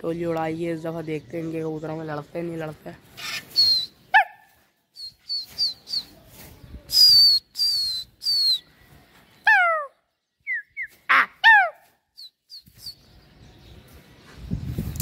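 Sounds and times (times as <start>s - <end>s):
birds calling with falling notes: 0.0s - 15.0s.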